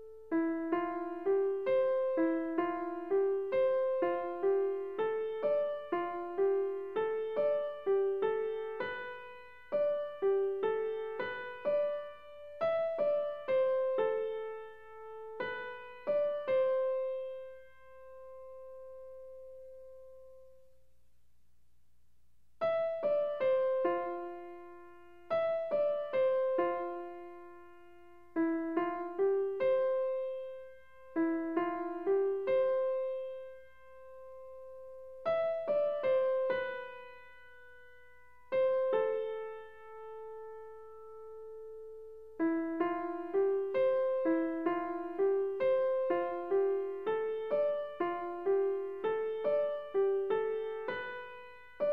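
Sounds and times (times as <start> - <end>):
gentle piano melody: 0.0 - 20.7, 22.6 - 51.9.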